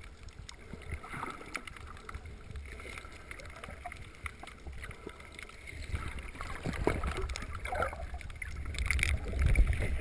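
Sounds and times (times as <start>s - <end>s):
clicks and crackles: 0.0s - 10.0s
muffled underwater rumble: 0.0s - 10.0s.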